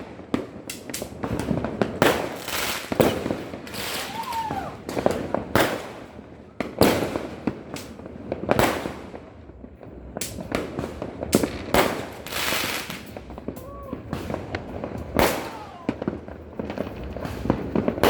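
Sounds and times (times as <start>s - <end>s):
fireworks and firecrackers banging: 0.0s - 18.0s.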